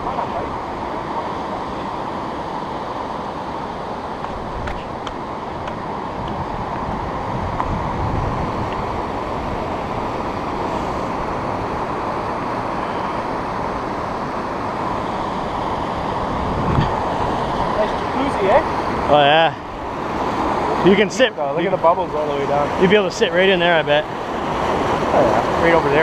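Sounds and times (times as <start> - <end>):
whitewater rapids rushing: 0.0 - 26.0.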